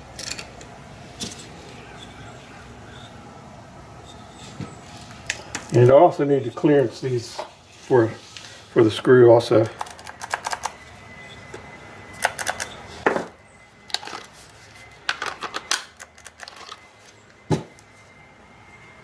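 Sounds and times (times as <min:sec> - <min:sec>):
faint steady high whine: 0:00.0 - 0:19.0.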